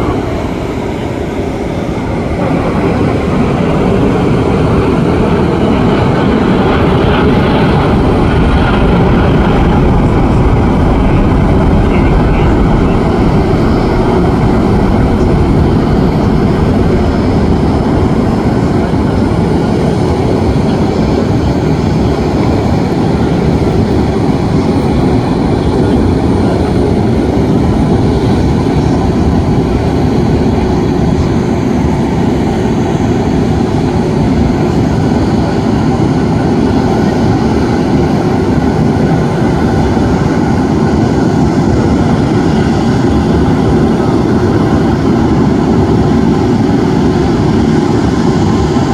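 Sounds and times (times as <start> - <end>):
jet engine rumble: 0.0 - 48.9.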